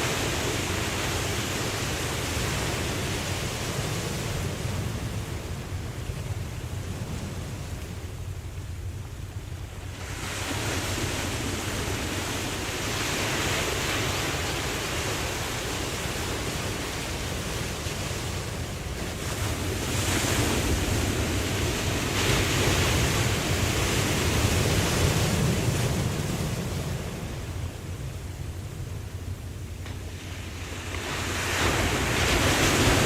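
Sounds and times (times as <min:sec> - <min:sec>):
ocean waves washing in: 0:00.0 - 0:33.0.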